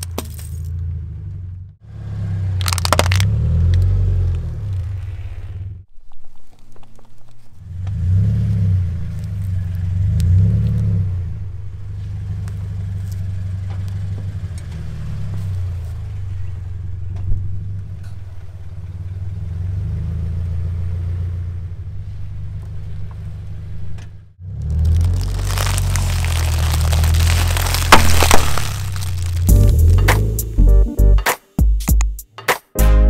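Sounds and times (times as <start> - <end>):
car engine low rumble: 0.0 - 31.2.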